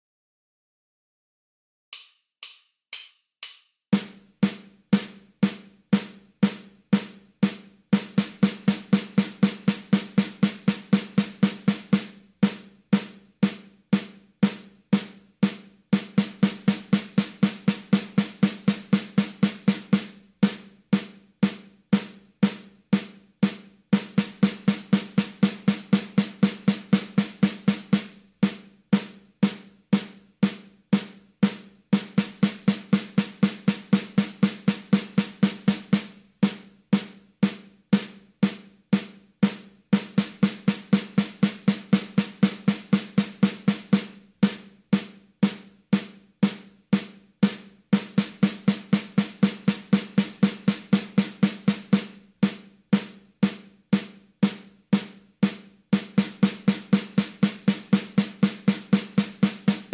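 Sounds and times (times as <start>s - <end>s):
drum strokes: 2.0s - 59.9s.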